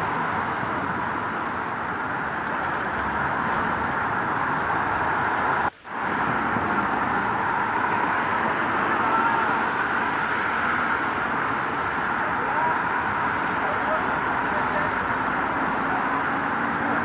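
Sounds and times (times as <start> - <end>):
steady rain: 0.0 - 17.0
traffic on wet street: 0.0 - 17.0.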